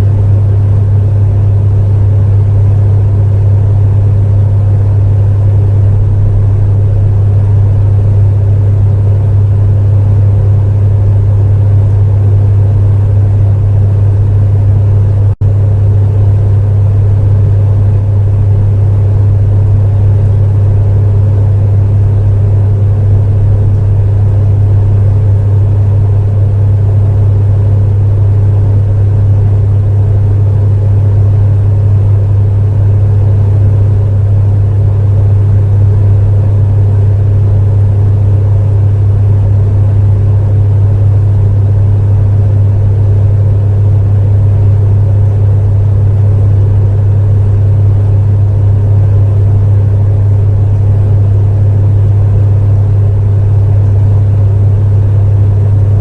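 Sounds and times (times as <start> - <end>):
space heater humming: 0.0 - 56.0
whooshing fan: 0.0 - 56.0.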